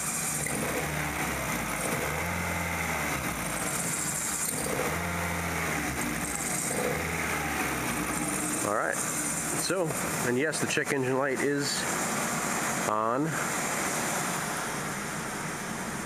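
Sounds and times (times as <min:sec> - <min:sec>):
car engine idling rough: 0:00.0 - 0:16.0.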